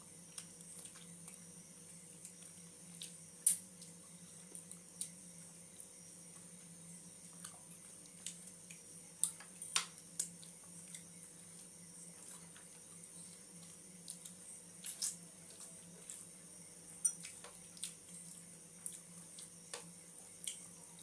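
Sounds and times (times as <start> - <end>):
steady low hum: 0.0 - 21.0
wet chewing and smacking: 0.3 - 5.2, 7.3 - 16.3, 17.1 - 20.7.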